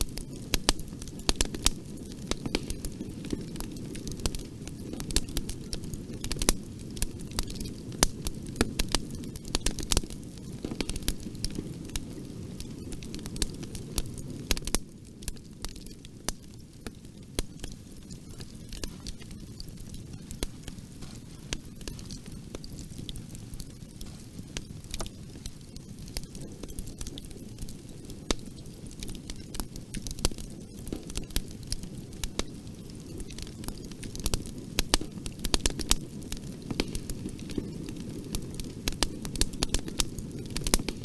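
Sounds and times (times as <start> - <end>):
fire crackling and popping: 0.0 - 41.0
flames rushing: 0.0 - 41.0.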